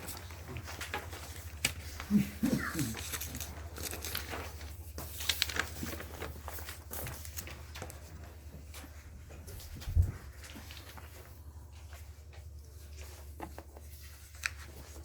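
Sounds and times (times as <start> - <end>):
low electrical hum: 0.0 - 15.0
papers rustling: 0.0 - 15.0.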